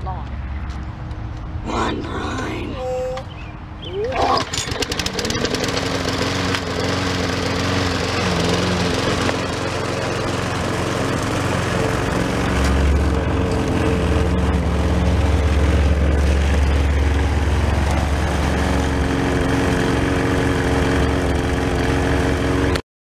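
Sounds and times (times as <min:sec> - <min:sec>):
lawn mower engine running: 0:03.3 - 0:22.8.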